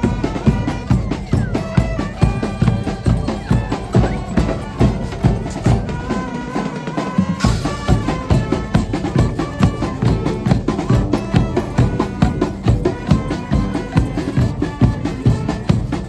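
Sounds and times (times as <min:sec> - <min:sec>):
loud music with drum beat and bass: 0:00.0 - 0:16.0.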